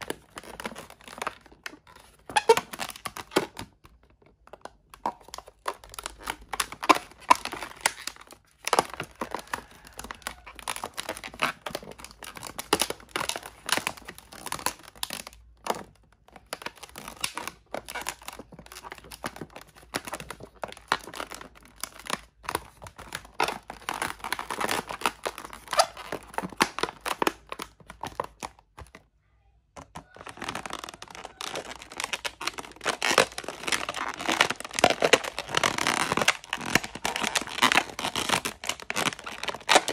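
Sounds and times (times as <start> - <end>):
balloons squeaking and rubbing: 0.0 - 3.7, 5.4 - 15.8, 16.4 - 28.5, 29.8 - 39.9.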